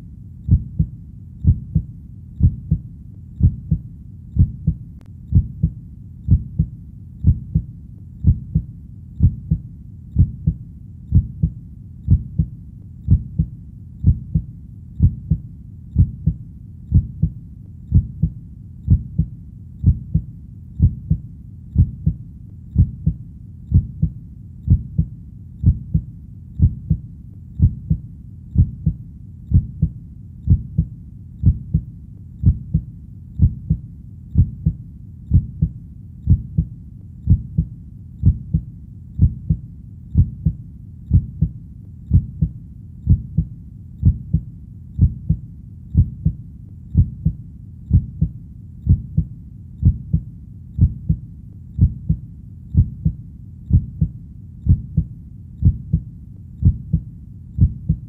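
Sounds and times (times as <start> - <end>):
faint low rumble: 0.0 - 58.0
human heartbeat: 0.0 - 58.0.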